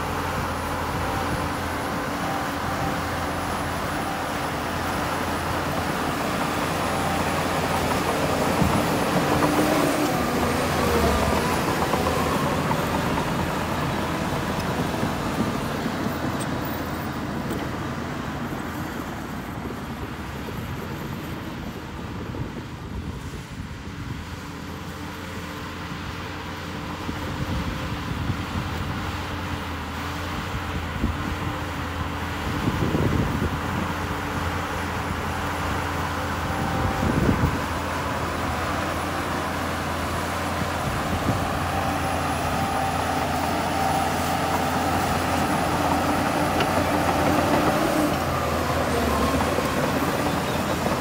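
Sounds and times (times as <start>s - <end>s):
heavy diesel machinery drone: 0.0s - 51.0s.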